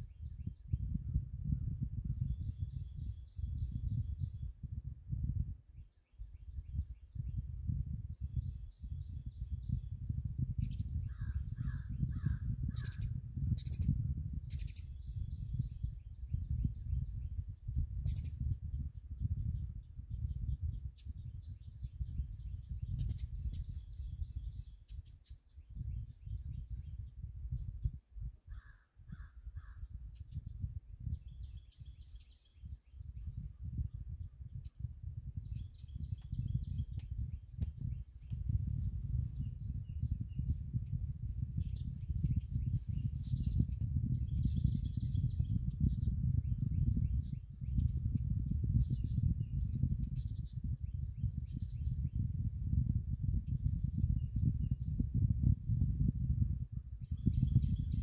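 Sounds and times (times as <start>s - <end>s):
low rumble on microphone: 0.0s - 58.0s
small birds chirping: 1.5s - 58.0s.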